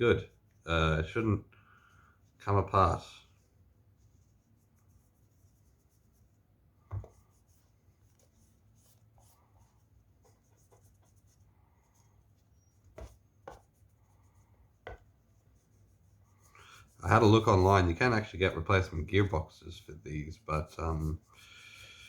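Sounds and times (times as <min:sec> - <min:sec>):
faint rubbing of parts: 0:00.0 - 0:22.0.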